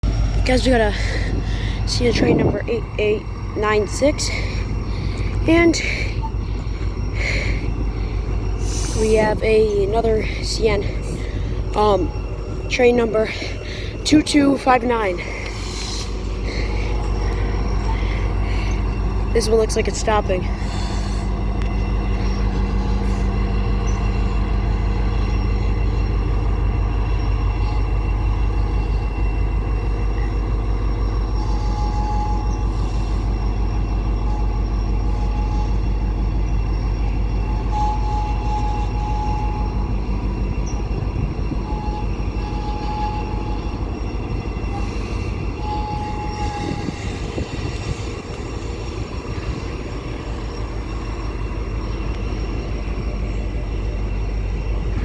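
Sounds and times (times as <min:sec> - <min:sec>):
freight train rumbling past: 0:00.0 - 0:55.0
train wheel squeals: 0:00.0 - 0:55.0.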